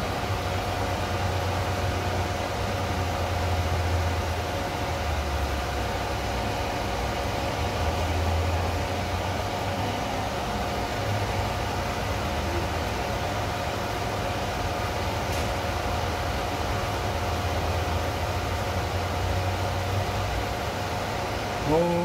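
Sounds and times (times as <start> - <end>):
cooker hum and hiss: 0.0 - 22.0.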